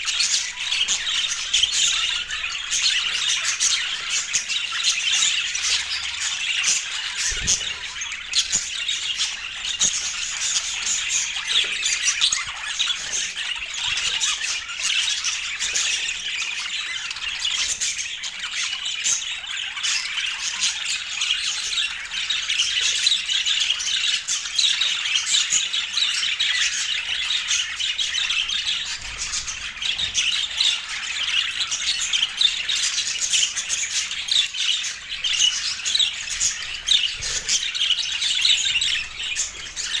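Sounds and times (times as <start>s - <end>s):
budgerigars chattering: 0.0s - 40.0s.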